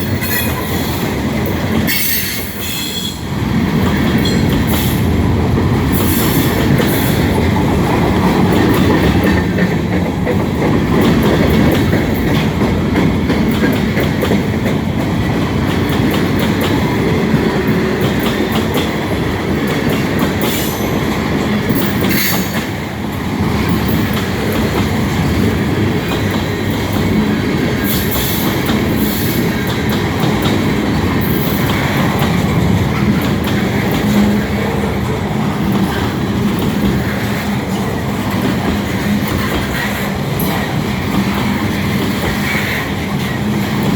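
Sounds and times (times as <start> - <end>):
train rumble: 0.0 - 43.9
train wheels clicking over rail joints: 0.0 - 43.9.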